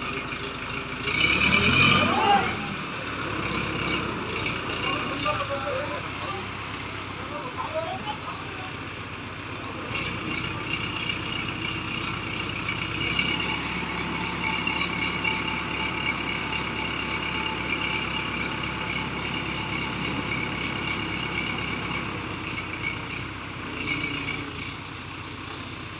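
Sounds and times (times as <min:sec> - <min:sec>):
crane diesel engine running: 0:00.0 - 0:25.9.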